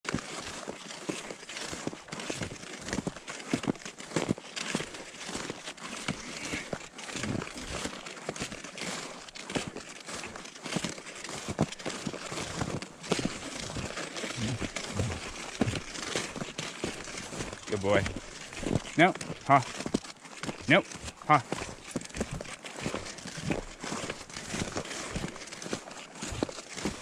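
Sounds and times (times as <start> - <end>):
skis crunching over snow: 0.0 - 27.0.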